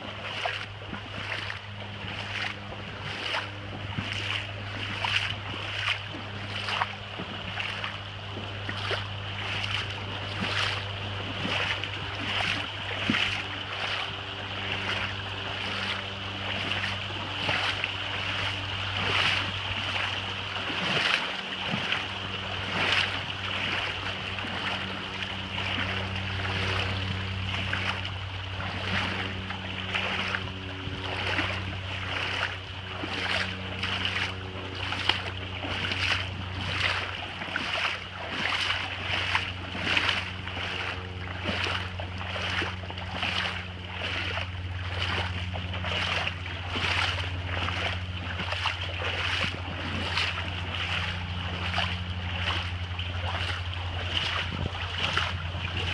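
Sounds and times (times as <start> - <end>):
footsteps splashing in water: 0.0 - 55.9
steady low hum: 0.0 - 55.9.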